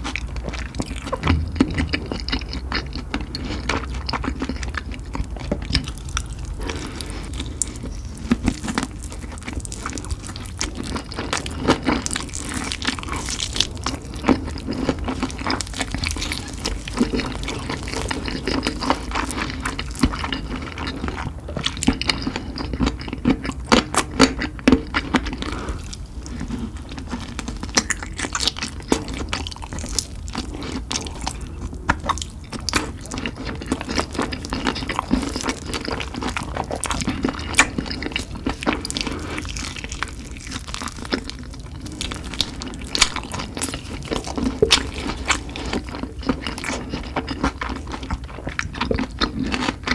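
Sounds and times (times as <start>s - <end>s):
chewing and crunching: 0.0s - 49.9s.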